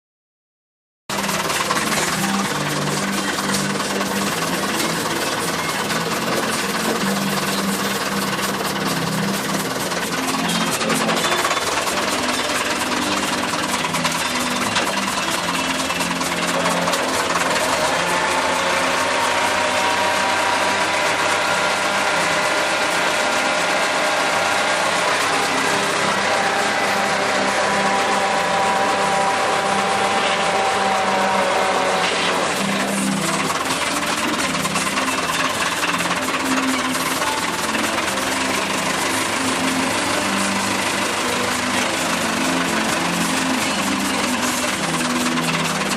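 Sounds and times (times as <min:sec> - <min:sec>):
tractor diesel engine clattering: 0:01.1 - 0:45.9.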